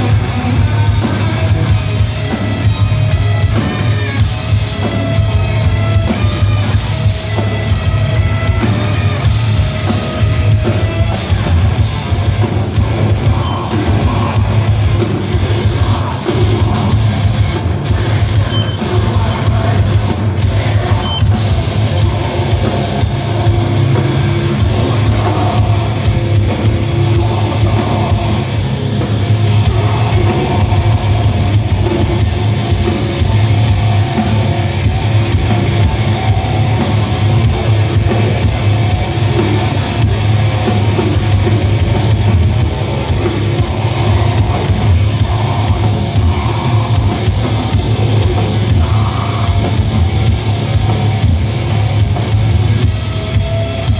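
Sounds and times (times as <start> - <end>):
distorted electric guitars: 0.0 - 53.9
heavy metal band playing live: 0.0 - 53.9
rapid drum kit beat: 0.0 - 53.9.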